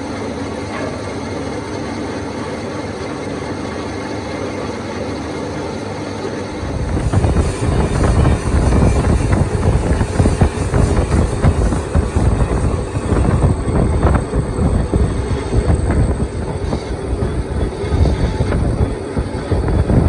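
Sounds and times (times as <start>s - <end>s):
metalworking machinery rumbling: 0.0s - 20.0s.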